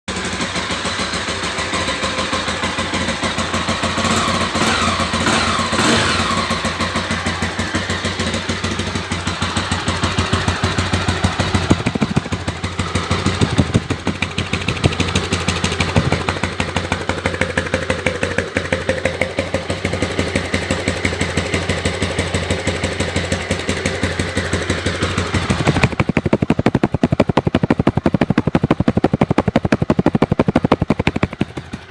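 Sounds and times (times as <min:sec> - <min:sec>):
motorcycle engine running: 0:00.1 - 0:31.9.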